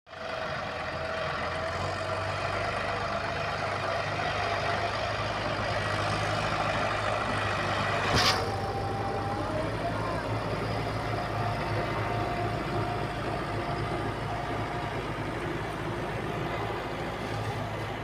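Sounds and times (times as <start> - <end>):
tractor diesel engine running: 0.1 - 18.0.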